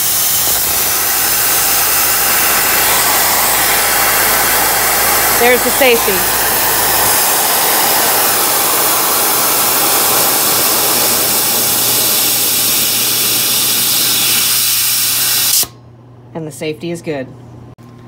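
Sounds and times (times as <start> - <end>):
safety valve venting air hiss: 0.0 - 15.8.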